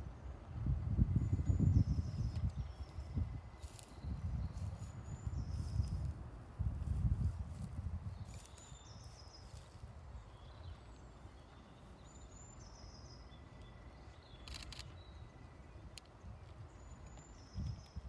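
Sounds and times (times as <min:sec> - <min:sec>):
faint whistled birdsong: 0:00.0 - 0:06.2, 0:06.9 - 0:18.0.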